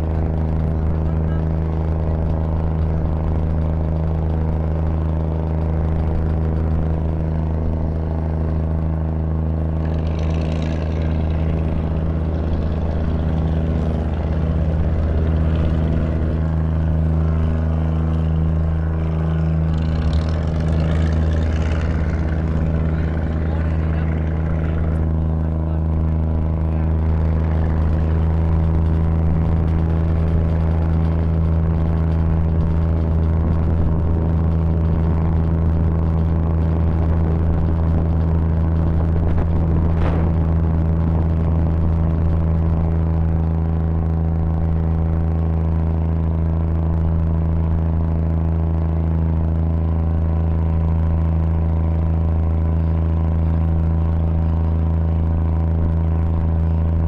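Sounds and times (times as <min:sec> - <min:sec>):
ferry engine droning: 0:00.0 - 0:57.0.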